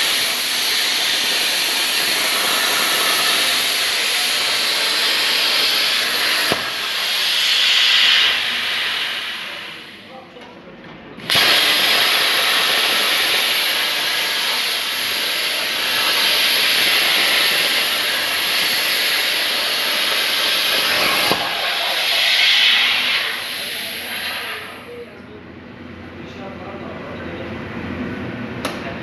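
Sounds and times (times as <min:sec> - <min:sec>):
plasma torch hissing: 0:00.0 - 0:10.2, 0:11.2 - 0:25.1.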